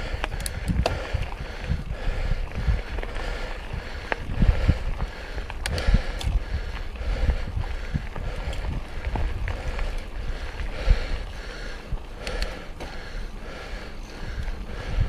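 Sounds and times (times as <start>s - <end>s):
bike knocking and rattling: 0.0s - 15.0s
bike tyres on dirt: 0.0s - 15.0s
wind buffeting microphone: 0.0s - 15.0s.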